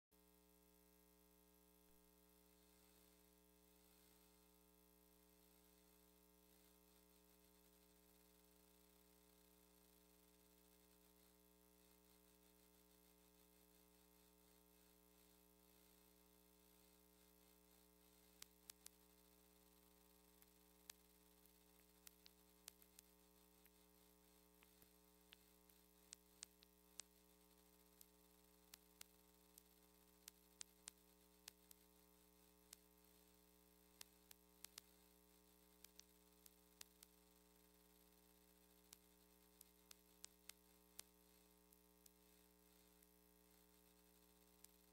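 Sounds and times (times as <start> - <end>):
faint electrical hum: 0.2 - 44.9
faint clicks: 5.4 - 44.9.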